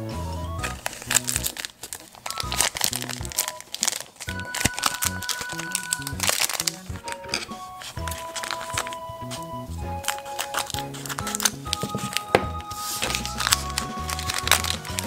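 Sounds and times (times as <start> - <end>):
background music: 0.0 - 15.0
plastic wrapper crinkling: 0.5 - 15.0.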